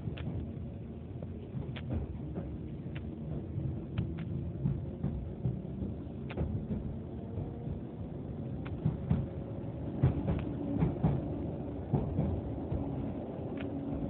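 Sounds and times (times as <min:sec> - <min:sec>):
train interior rumble: 0:00.0 - 0:14.0
wheels clacking on track: 0:00.0 - 0:14.0.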